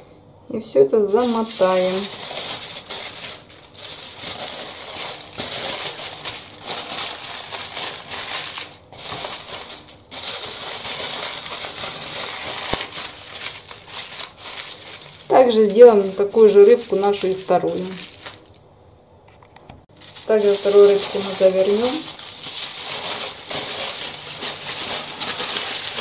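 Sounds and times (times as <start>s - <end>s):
aluminium foil crinkling: 1.0s - 18.6s, 19.9s - 26.0s.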